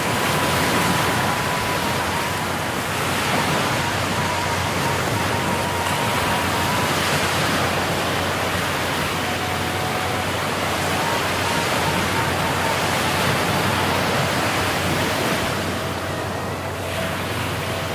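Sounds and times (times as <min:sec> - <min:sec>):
surf breaking on sandy beach: 0:00.0 - 0:16.3.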